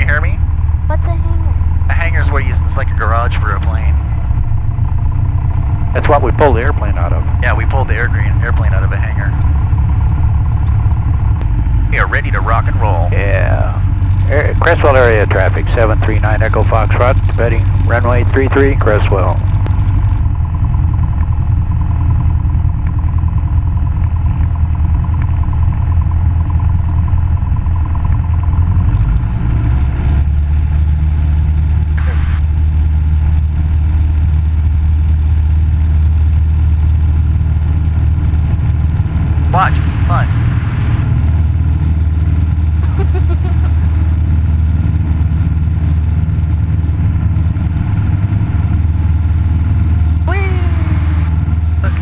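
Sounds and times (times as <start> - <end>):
propeller plane engine running: 0.0 - 52.0.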